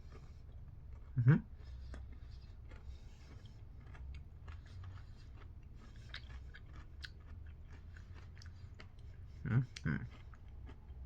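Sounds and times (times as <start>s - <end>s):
chewing crunchy chocolate: 0.0s - 11.0s.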